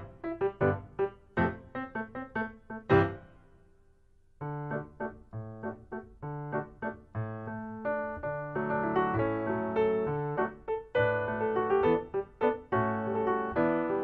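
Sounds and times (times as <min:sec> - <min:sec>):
solo piano: 0:00.0 - 0:03.8, 0:04.4 - 0:14.0.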